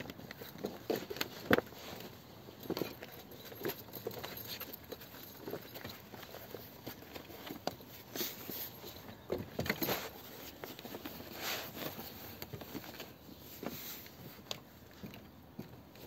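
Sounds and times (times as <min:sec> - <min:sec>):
rope rustling and scraping: 0:00.0 - 0:15.0.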